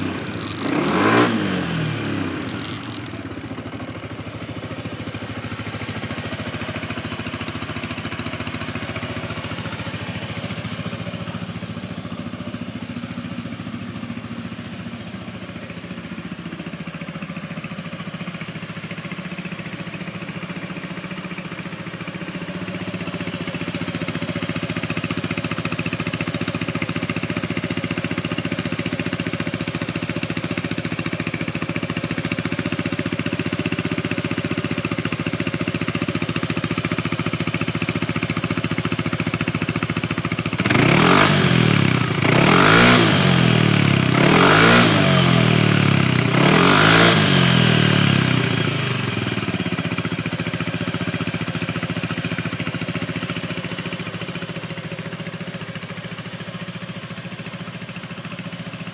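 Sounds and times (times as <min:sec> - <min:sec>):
scooter engine idling and revving: 0:00.0 - 0:58.9.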